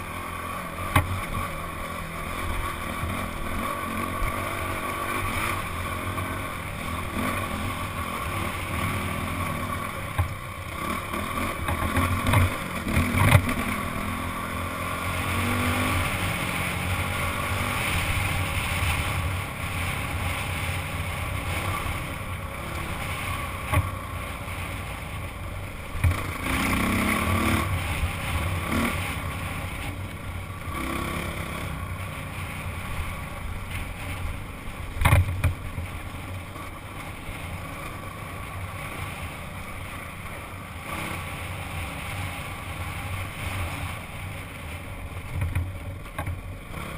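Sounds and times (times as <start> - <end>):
dirt bike engine revving: 0.0 - 34.2, 36.6 - 44.3.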